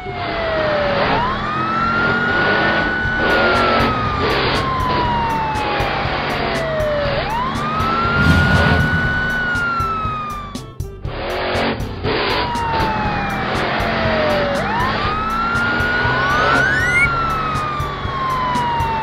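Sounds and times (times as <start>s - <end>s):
police siren wailing: 0.0s - 10.8s, 12.1s - 19.0s.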